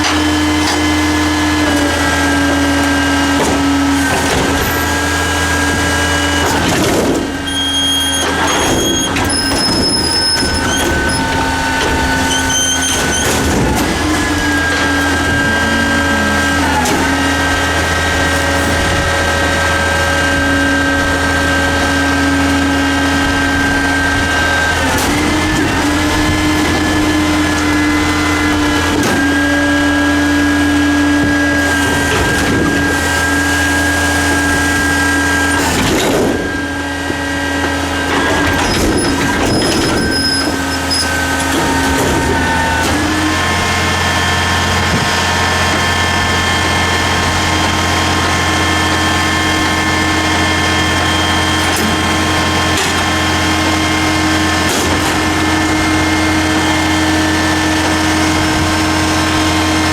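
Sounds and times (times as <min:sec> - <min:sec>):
hydraulic pump whining: 0:00.0 - 0:59.9
truck engine running: 0:00.0 - 0:59.9.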